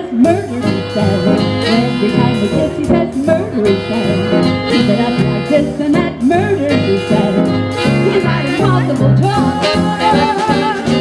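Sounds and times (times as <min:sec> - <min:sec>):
drums: 0:00.0 - 0:11.0
person singing: 0:00.0 - 0:11.0
saxophone: 0:00.0 - 0:11.0
swing band playing: 0:00.0 - 0:11.0.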